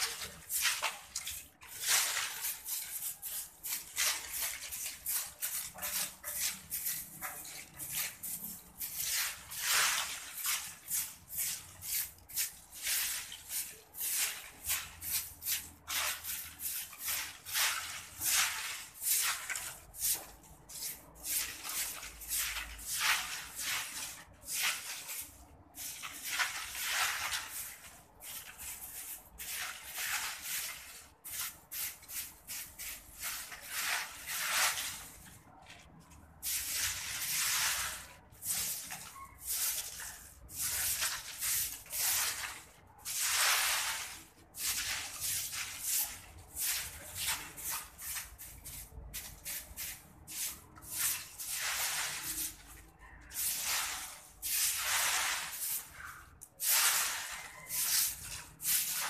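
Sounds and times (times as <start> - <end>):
broom sweeping concrete floor: 0.0 - 59.0.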